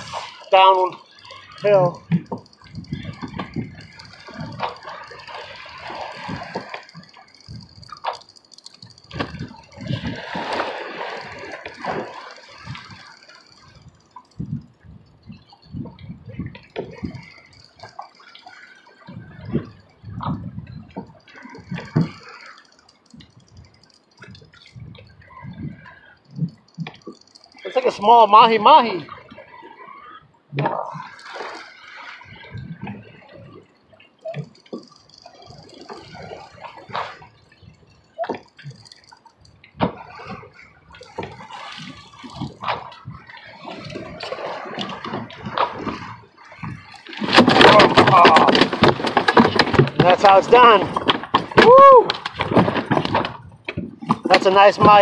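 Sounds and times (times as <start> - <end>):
water sloshing against boat hull: 0.0 - 55.0.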